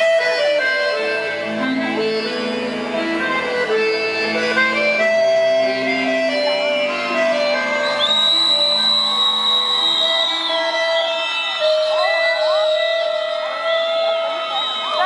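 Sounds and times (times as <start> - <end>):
accordion melody: 0.0 - 15.0
guitar and bass accompaniment: 0.0 - 15.0.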